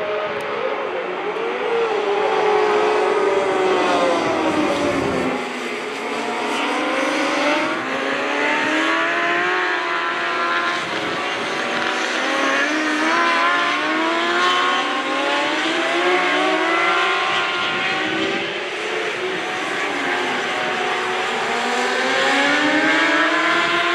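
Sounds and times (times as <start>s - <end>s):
racing motorcycle engines: 0.0s - 23.9s.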